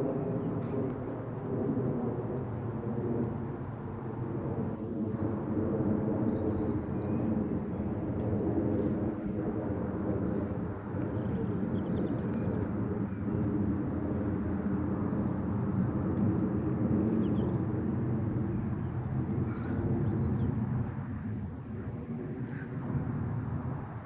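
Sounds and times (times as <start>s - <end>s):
airliner flying over: 0.0s - 24.0s.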